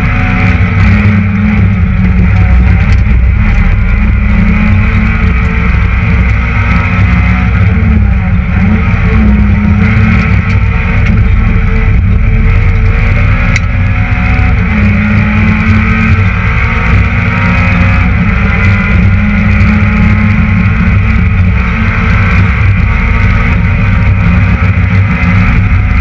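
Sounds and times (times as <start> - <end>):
car engine running hard: 0.0 - 26.0.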